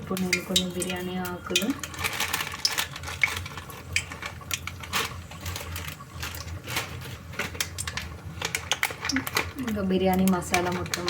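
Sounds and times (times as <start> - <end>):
leaves sizzling in hot oil: 0.0 - 11.0
crackles and pops: 0.1 - 11.0.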